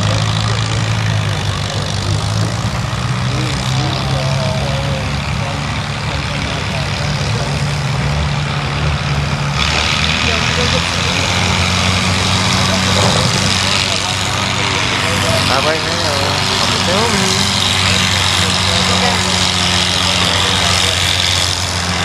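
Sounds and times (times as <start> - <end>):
faint voices: 0.0 - 22.0
tractor engine idling: 0.0 - 22.0.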